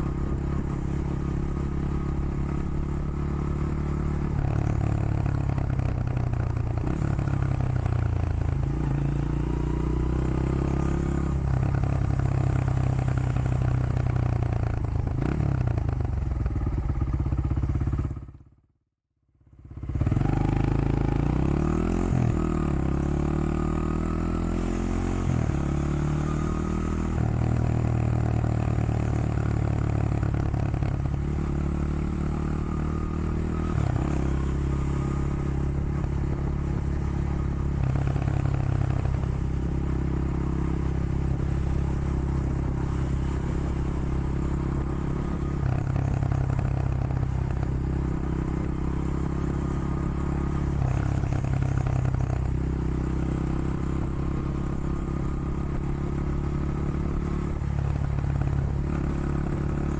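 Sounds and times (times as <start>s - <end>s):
motorcycle engine running: 0.0s - 18.7s, 19.3s - 59.9s.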